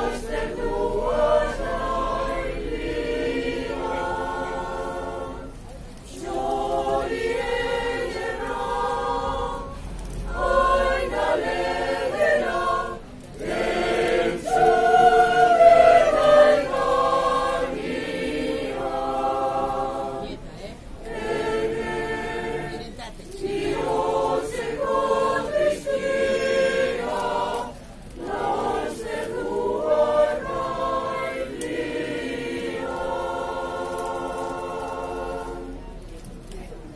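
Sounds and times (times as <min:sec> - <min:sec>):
mixed choir singing unaccompanied: 0:00.0 - 0:36.9.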